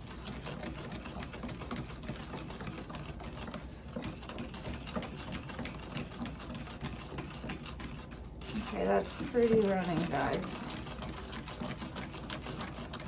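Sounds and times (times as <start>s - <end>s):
stirrer scraping a plastic cup: 0.0s - 13.0s.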